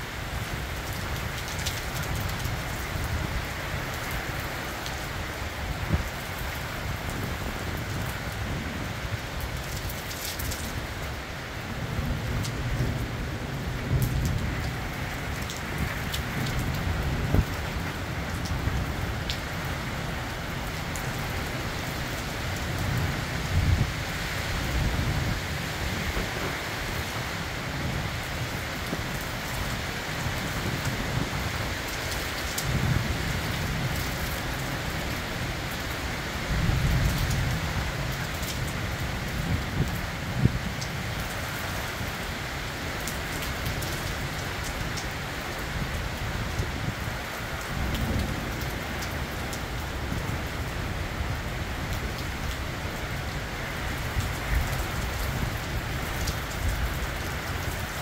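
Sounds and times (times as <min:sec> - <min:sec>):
steady rain on roofs and streets: 0:00.0 - 0:58.0.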